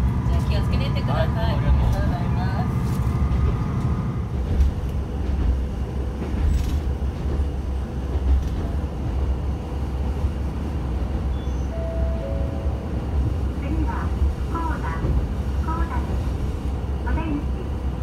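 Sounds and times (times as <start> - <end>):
railcar engine and wheels rumbling: 0.0 - 18.0.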